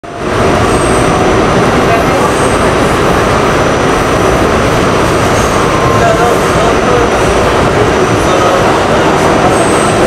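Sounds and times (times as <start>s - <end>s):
subway car rumbling on track: 0.0s - 10.0s.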